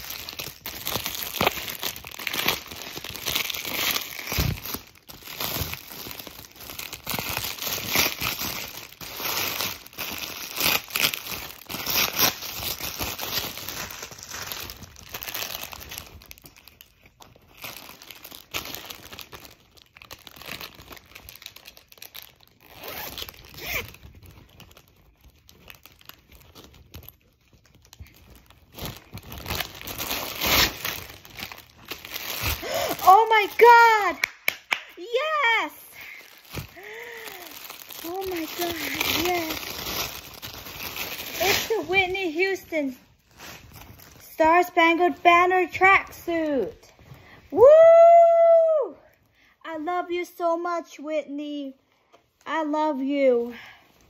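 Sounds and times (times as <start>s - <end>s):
plastic packaging crinkling: 0.0s - 48.4s.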